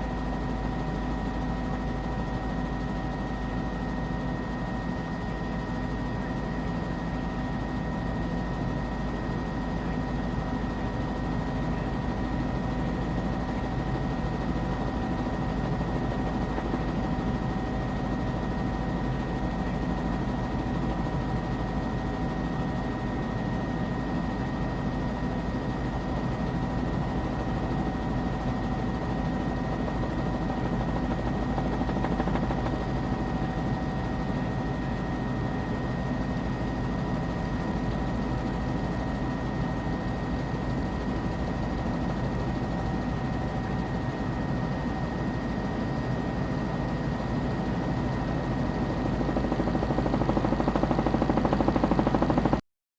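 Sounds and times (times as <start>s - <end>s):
aircraft engine drone: 0.0s - 52.6s
steady humming tones: 0.0s - 52.6s.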